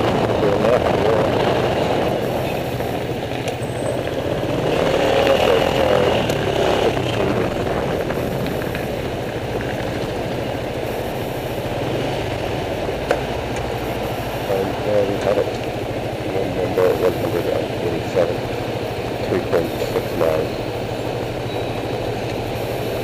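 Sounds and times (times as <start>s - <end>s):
motor scooter engine running: 0.0s - 23.0s
traffic noise: 0.0s - 23.0s.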